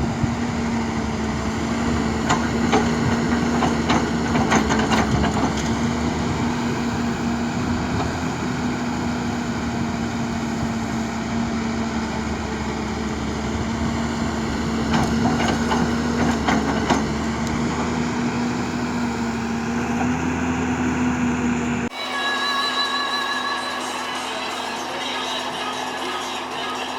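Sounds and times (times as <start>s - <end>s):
excavator diesel engine running: 0.0s - 22.0s, 22.6s - 26.9s.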